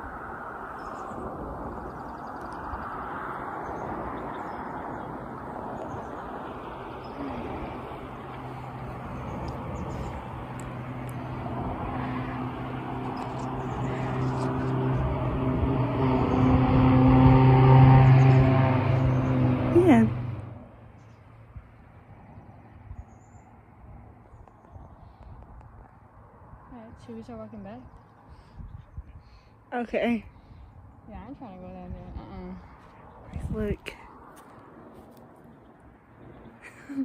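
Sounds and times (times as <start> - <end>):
outdoor rush: 0.0 - 37.0.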